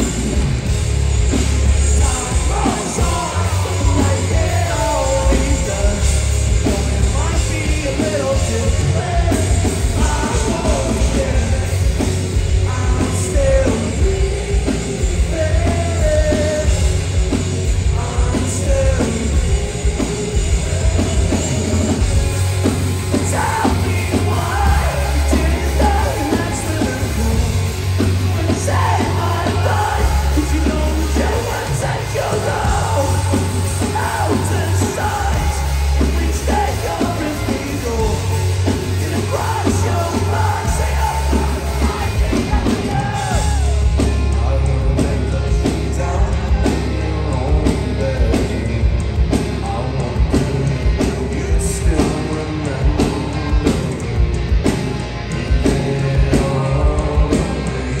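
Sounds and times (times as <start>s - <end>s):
singer singing and shouting: 0.0s - 54.2s
bass guitar: 0.0s - 58.0s
electric guitars: 0.0s - 58.0s.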